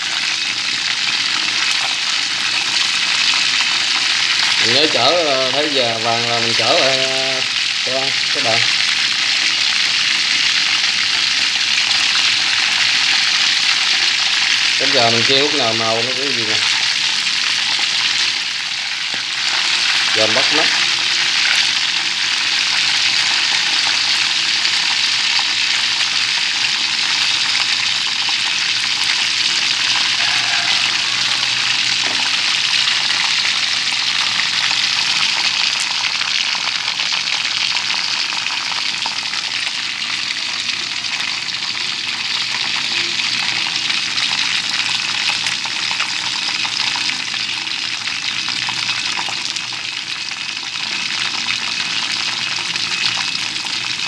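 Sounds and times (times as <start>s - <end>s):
chicken wings sizzling in hot oil: 0.0s - 54.0s.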